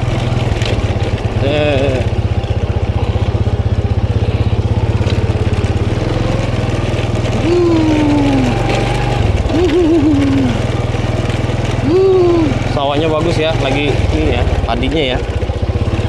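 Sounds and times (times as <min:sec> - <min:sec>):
scooter engine puttering: 0:00.0 - 0:16.0.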